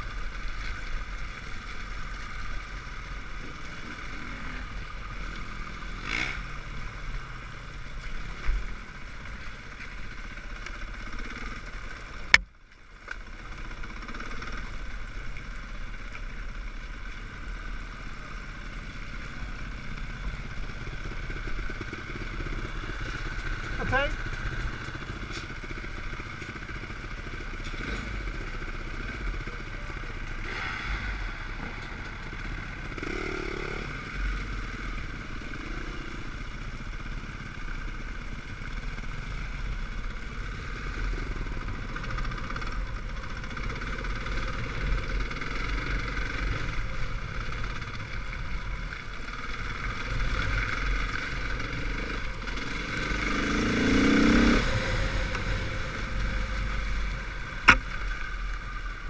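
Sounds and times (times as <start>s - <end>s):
motorcycle engines droning: 0.0s - 59.0s.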